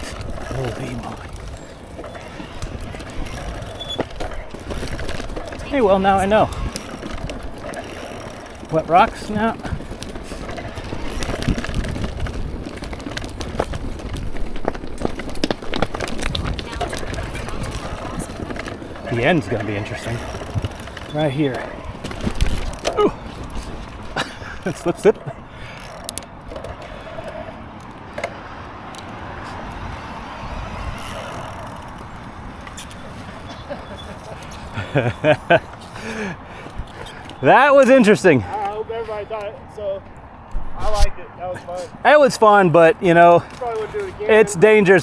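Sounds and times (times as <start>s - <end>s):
bike tyres rumbling over rocks: 0.0s - 41.0s, 41.7s - 45.0s
bike rattling over rocks: 0.0s - 45.0s
wind: 0.0s - 45.0s.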